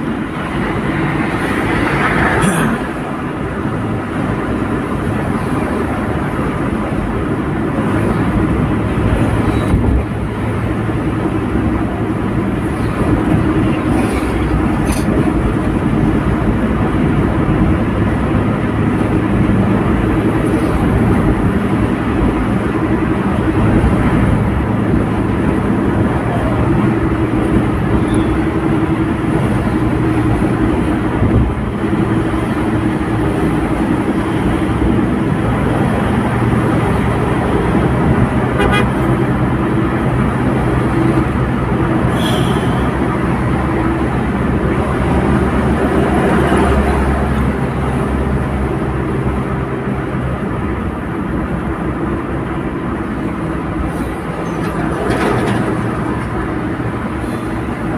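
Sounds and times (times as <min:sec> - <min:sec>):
car cabin road and engine noise: 0:00.0 - 0:57.9.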